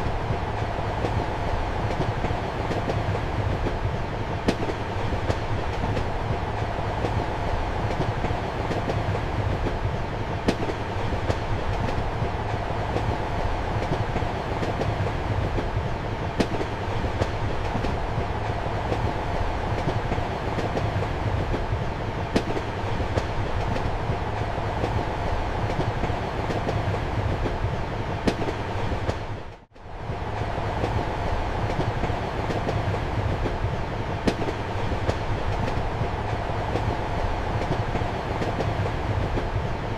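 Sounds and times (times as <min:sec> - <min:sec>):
wheels clicking on rail joints: 0:00.0 - 0:29.4, 0:30.0 - 0:39.9
train rumble inside compartment: 0:00.0 - 0:39.9.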